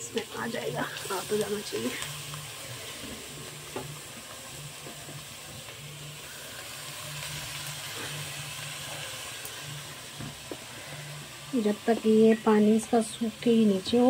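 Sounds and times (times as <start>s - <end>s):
carrots hissing and sizzling: 0.0s - 14.0s.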